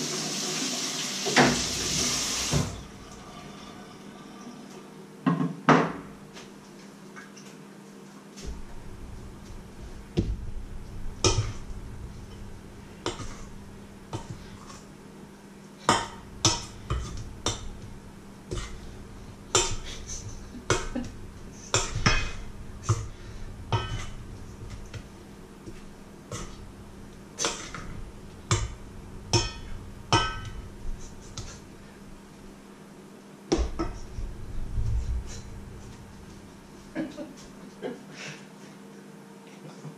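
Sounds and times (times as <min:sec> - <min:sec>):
steady low hum: 0:01.8 - 0:39.9.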